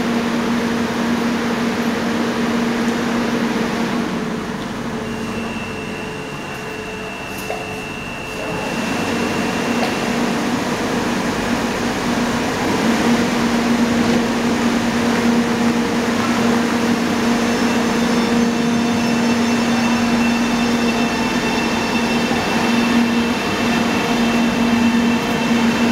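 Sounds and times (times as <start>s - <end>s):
electric train motor hum: 0.0s - 25.9s
train whining tones: 0.0s - 25.9s.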